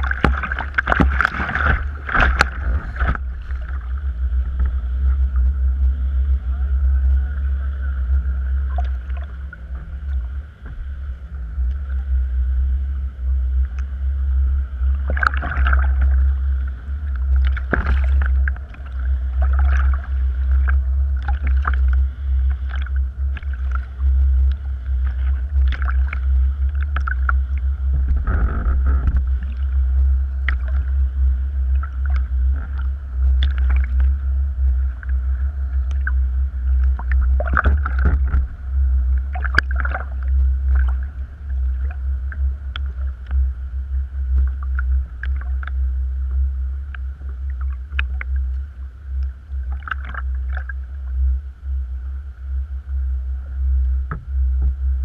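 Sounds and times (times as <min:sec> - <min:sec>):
steady low rumble: 0:00.0 - 0:55.0
water splashing against kayak: 0:00.0 - 0:55.0.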